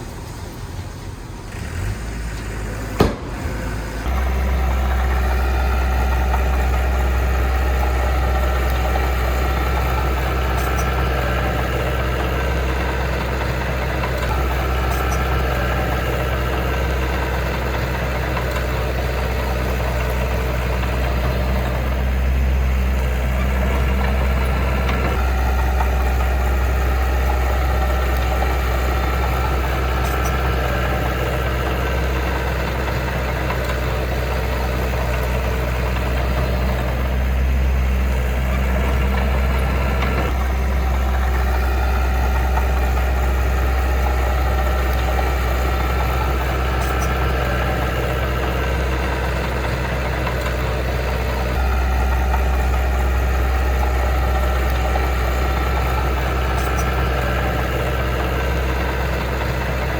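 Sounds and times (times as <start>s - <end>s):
diesel engine deep hum: 0.0s - 59.9s.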